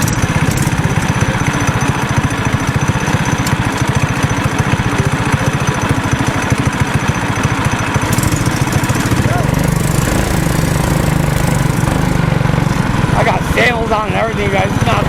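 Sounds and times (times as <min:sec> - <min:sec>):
small off-road vehicle engine running: 0:00.0 - 0:15.0.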